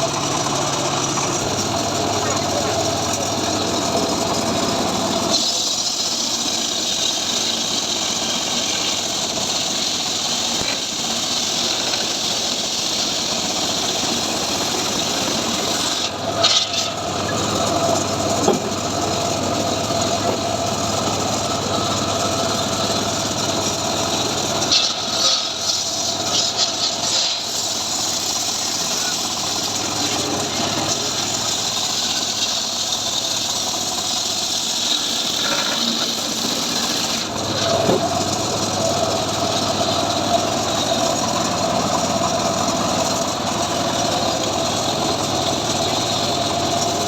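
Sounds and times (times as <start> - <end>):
engine-driven sawmill running: 0.0 - 47.0.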